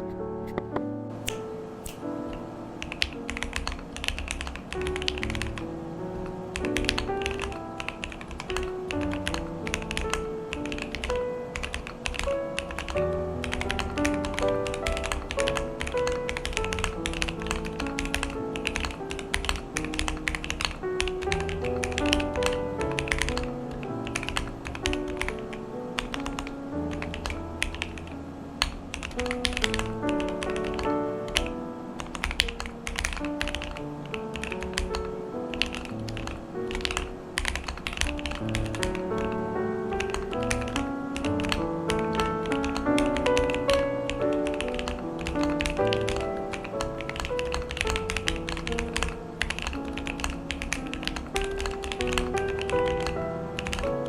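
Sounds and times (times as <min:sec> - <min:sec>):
background music with melody: 0:00.0 - 0:54.0
mechanical keyboard typing: 0:00.0 - 0:54.0.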